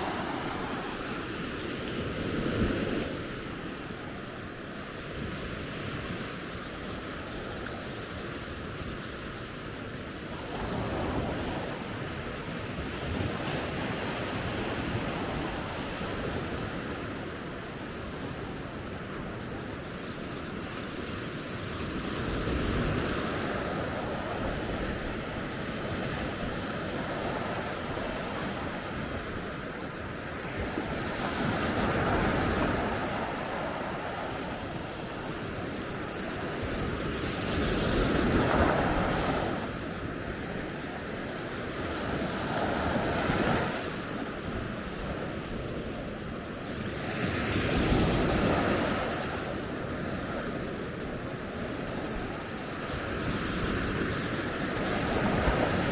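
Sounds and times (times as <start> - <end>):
sea waves breaking on beach: 0.0 - 55.9
wind on microphone: 0.0 - 55.9.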